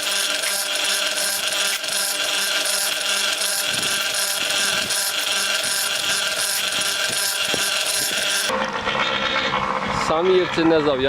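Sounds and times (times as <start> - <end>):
concrete mixer humming: 0.0 - 11.0.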